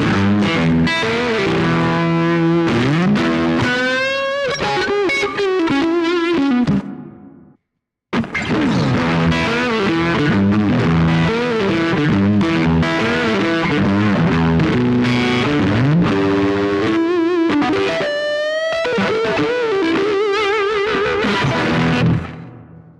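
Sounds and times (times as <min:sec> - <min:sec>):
electric guitar lead lines: 0:00.0 - 0:22.9.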